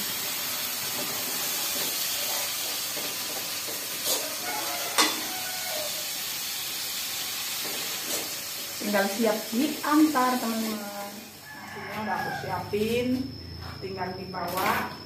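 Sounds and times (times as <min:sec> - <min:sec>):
gas burner hissing under wok: 0:00.0 - 0:13.8.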